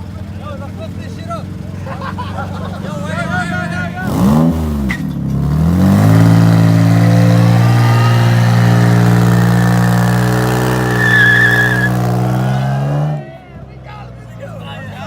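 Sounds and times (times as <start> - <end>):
car engine accelerating: 0.0 - 13.4.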